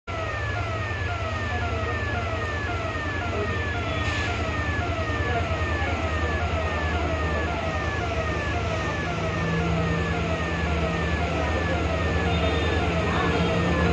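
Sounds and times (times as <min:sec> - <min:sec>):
electronic warning siren: 0:00.1 - 0:13.9
low engine rumble: 0:00.1 - 0:13.9.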